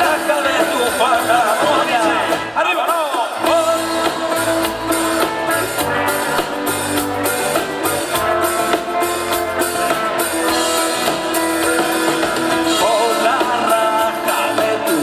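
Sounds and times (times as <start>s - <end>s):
rock band playing instrumental: 0.0s - 15.0s.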